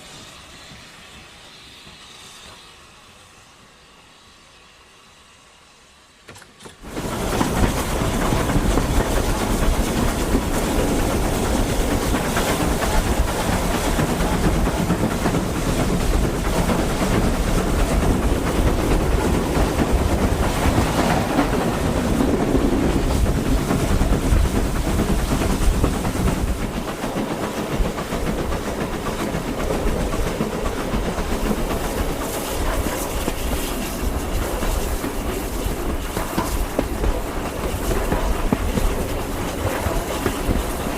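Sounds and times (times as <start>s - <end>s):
train rumbling past: 0.0s - 40.9s
wheels clicking over rail joints: 6.2s - 40.9s.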